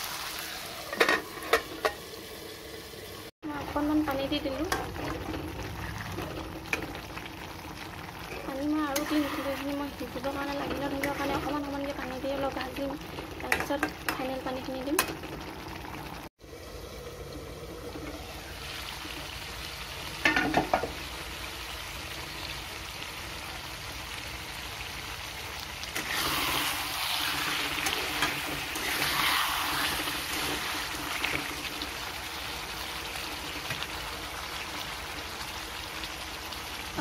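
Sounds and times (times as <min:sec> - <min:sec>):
curry sizzling in a pan: 0:00.0 - 0:37.0.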